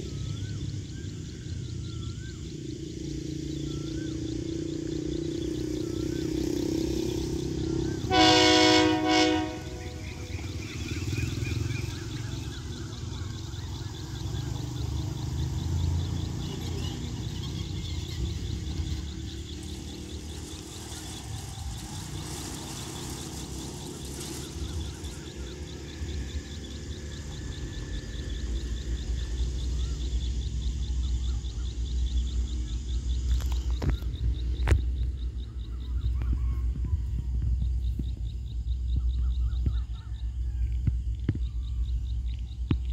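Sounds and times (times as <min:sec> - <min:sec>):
distant diesel locomotive rumble: 0:00.0 - 0:42.9
insects chirping: 0:00.0 - 0:42.9.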